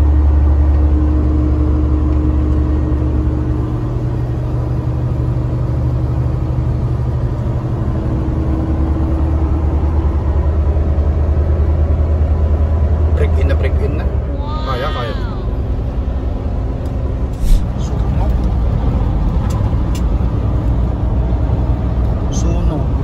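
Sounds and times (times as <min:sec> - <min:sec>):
road noise: 0:00.0 - 0:23.0
truck diesel engine droning: 0:00.0 - 0:23.0.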